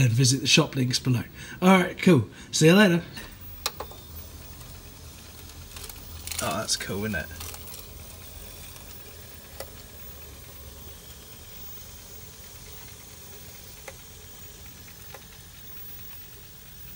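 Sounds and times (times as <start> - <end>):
tape machine hum and hiss: 0.0 - 16.9
faint mechanical clicks: 3.2 - 16.9.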